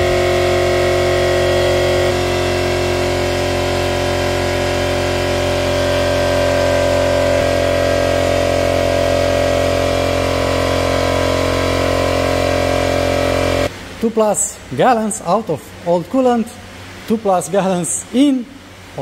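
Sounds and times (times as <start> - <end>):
machine mechanical hum: 0.0 - 19.0.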